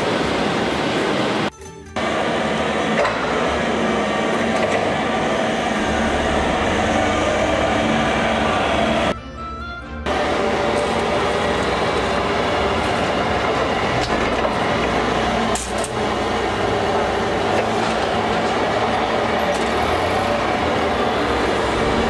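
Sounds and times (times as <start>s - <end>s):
forklift engine running: 2.0s - 9.2s, 10.0s - 22.0s.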